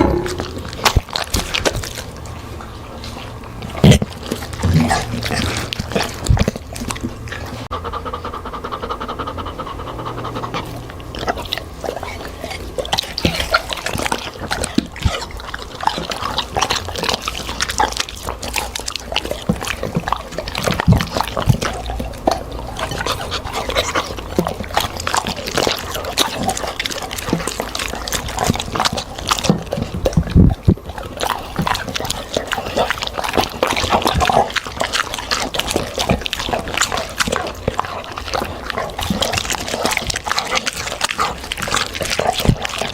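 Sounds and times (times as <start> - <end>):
dog chewing wetly: 0.0 - 42.9
dog panting: 2.1 - 42.9.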